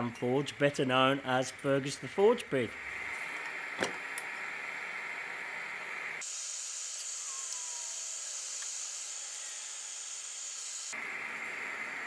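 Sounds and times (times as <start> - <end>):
forge burner hissing: 1.4 - 12.0.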